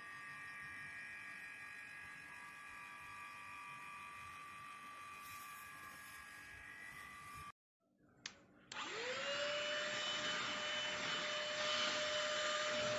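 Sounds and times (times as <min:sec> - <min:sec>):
handheld vacuum cleaner whining: 0:00.0 - 0:07.5, 0:08.7 - 0:12.9.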